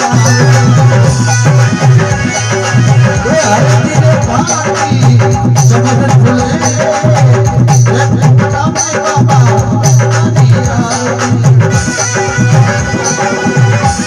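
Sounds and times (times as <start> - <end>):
hand drums: 0.0 - 14.0.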